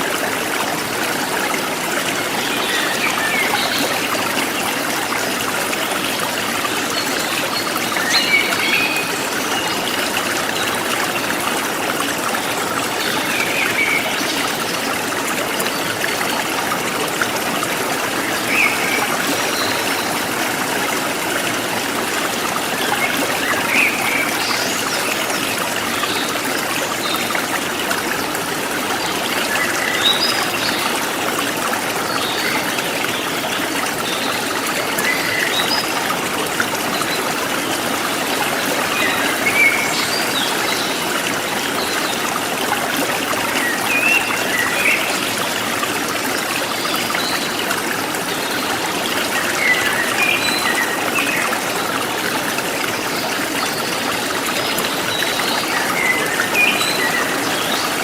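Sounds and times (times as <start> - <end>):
forest stream flowing: 0.0 - 58.0.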